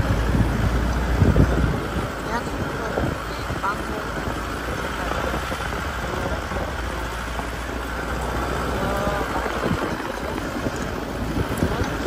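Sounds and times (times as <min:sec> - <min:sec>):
tyres on rough dirt track: 0:00.0 - 0:12.0
vehicle engine rumbling: 0:00.0 - 0:12.0.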